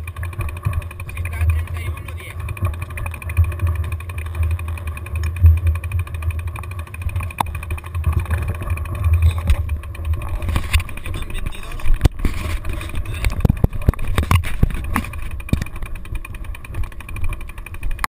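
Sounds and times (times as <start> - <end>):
wind buffeting camera: 0.0 - 18.0.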